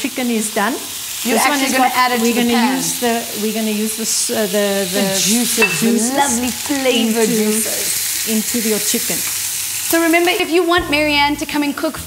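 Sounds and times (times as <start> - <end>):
woman talking: 0.0 - 9.2, 9.9 - 12.0
chicken sizzling in a frying pan: 0.0 - 12.0.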